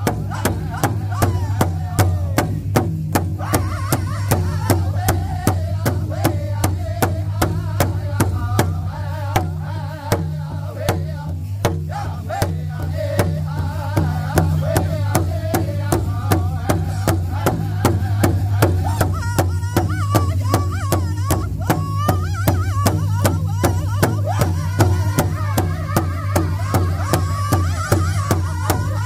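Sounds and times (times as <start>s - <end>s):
group singing: 0.0s - 29.0s
large drum beating: 0.0s - 29.0s.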